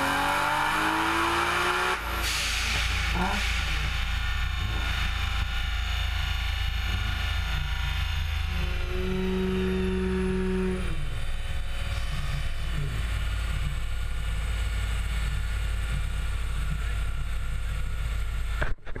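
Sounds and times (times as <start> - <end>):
car engine on dyno: 0.0 - 19.0
dyno rollers rumbling: 0.0 - 19.0
supercharger whine: 0.0 - 19.0.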